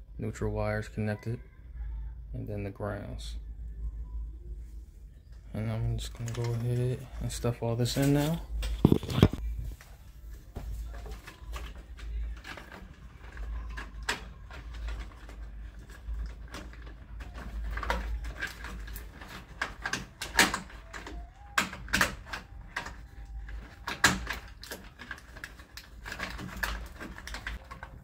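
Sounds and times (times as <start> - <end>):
wires rustling into wall box: 5.3 - 28.0.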